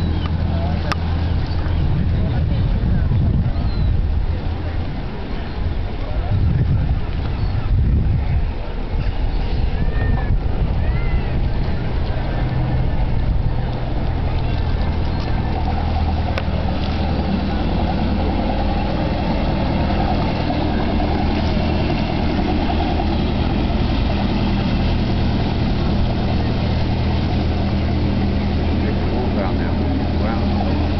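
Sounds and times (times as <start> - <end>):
boat engine humming: 0.0 - 30.9.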